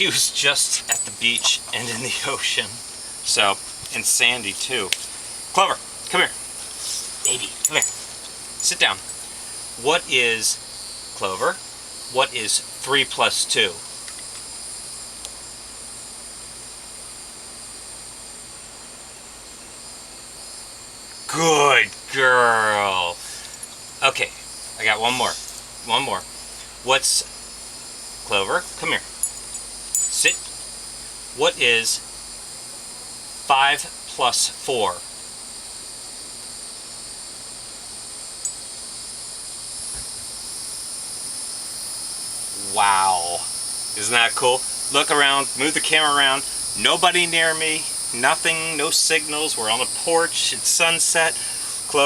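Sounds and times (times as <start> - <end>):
crickets chirping: 0.0 - 52.0
faint hiss: 0.0 - 52.0.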